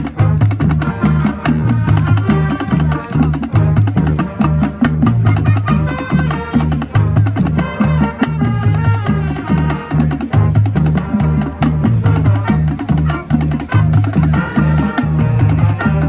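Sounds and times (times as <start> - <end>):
marching band playing: 0.0 - 16.0
percussion beat: 0.0 - 16.0.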